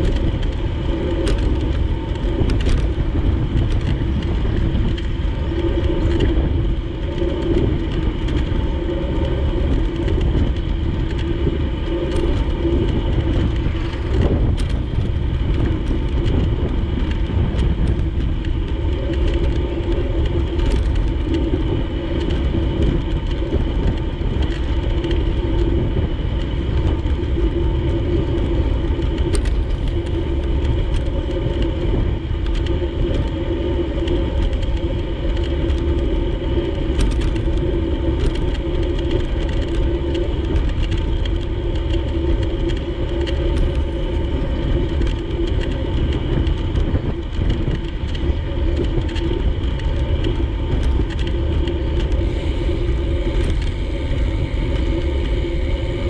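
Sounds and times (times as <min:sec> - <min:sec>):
bicycle road rumble: 0:00.0 - 0:56.0
constant hum: 0:00.0 - 0:56.0
wind: 0:00.0 - 0:56.0
small ticks: 0:07.0 - 0:55.6.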